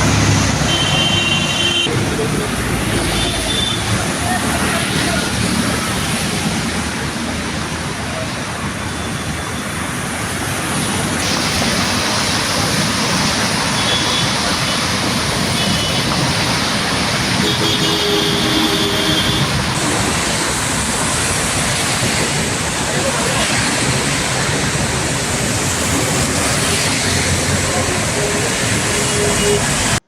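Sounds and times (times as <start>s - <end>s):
heavy rain: 0.0s - 30.0s
traffic on wet street: 0.0s - 30.0s
wind: 0.0s - 30.0s.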